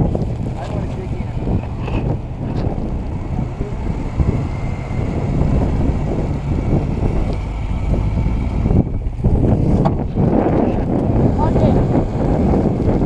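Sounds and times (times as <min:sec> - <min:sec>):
car engine running under load: 0:00.0 - 0:13.0
wind buffeting microphone: 0:00.0 - 0:13.0.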